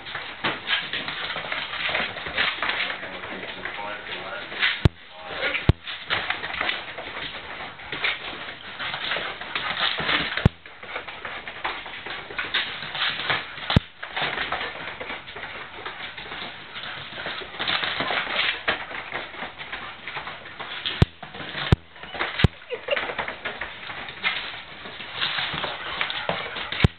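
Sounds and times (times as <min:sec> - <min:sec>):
puppy paws and claws on floor: 0:00.0 - 0:26.9.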